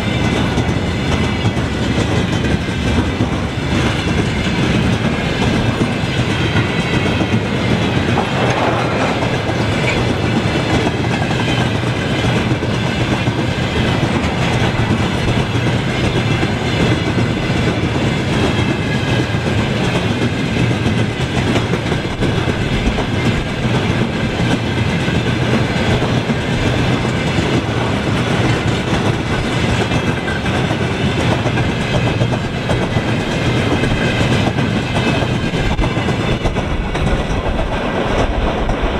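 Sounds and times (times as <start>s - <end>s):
freight train wheels clacking: 0.0s - 38.9s.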